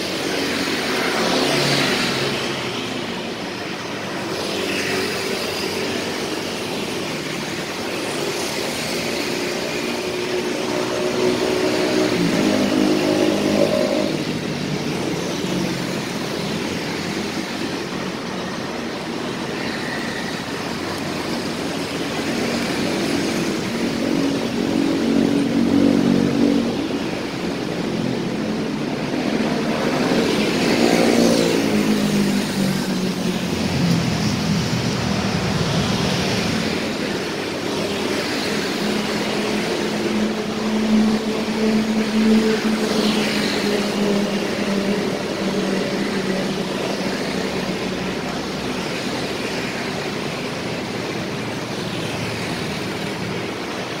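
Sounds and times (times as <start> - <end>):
cars and motorcycles passing: 0.0 - 54.0.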